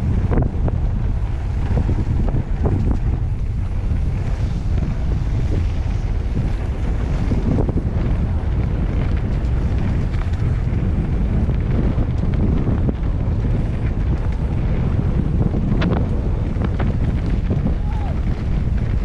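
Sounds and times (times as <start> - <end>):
bike clicks and rattles: 0.0 - 19.0
wind rumble on microphone: 0.0 - 19.0.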